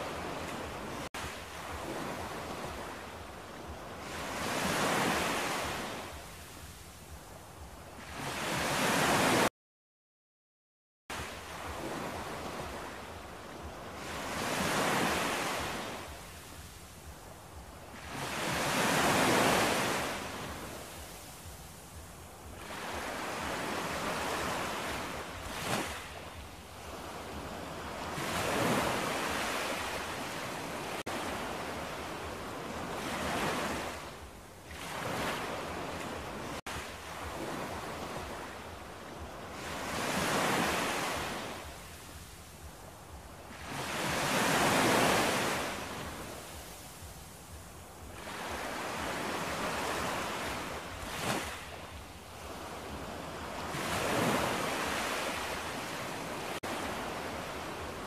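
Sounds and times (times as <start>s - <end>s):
small waves breaking on beach: 0.0s - 9.5s, 11.1s - 58.0s.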